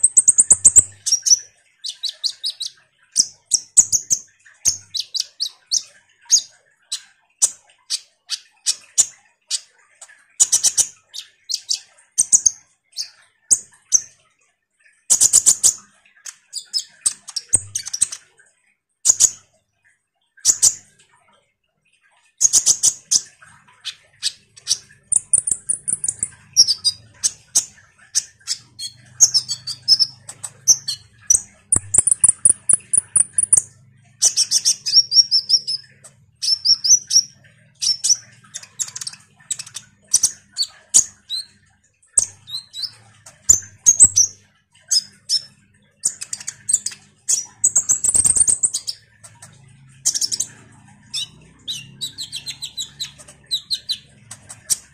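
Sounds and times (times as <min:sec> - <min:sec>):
bird chirping and trilling: 0:00.0 - 0:14.2, 0:14.8 - 0:18.4, 0:20.4 - 0:20.9, 0:22.3 - 0:54.9.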